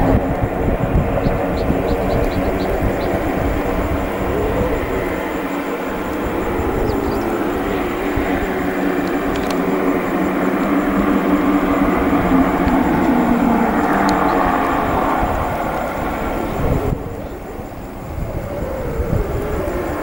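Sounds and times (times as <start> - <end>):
turboprop engines running: 0.0 - 20.0.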